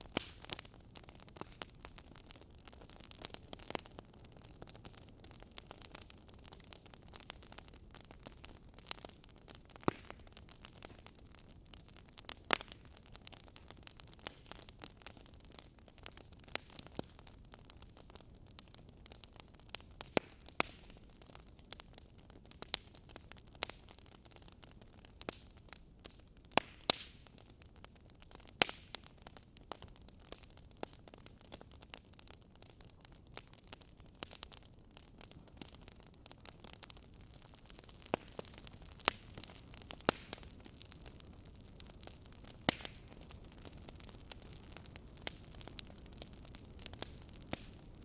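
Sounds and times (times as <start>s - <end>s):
faint steady hiss: 0.0s - 48.0s
wood fire crackling: 0.0s - 48.0s.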